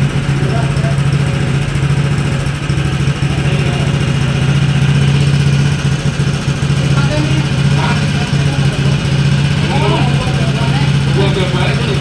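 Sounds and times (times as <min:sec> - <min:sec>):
small engine humming: 0:00.0 - 0:12.0.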